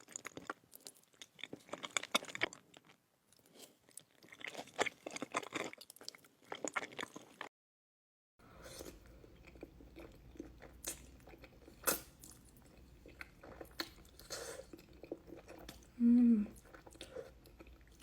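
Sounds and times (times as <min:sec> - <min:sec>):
person crunching and chewing food: 0:00.0 - 0:07.5, 0:08.7 - 0:18.0.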